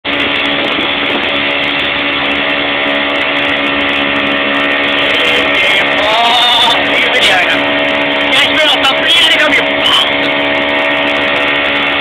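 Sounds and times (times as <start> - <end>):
outboard motor running: 0.0 - 12.0
water rushing from wake: 0.0 - 12.0.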